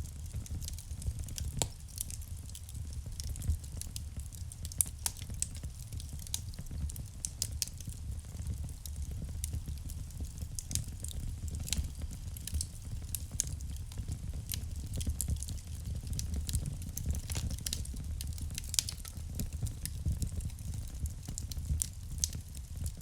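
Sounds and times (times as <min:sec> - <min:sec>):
fire crackling in fireplace: 0:00.0 - 0:23.0.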